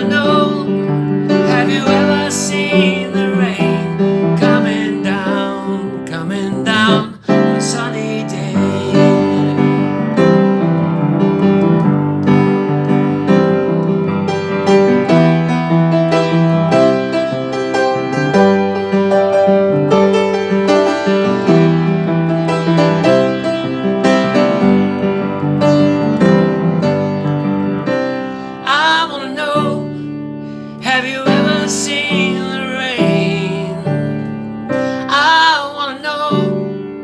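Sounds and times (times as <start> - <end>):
piano playing rhythmic chords: 0.0 - 37.0.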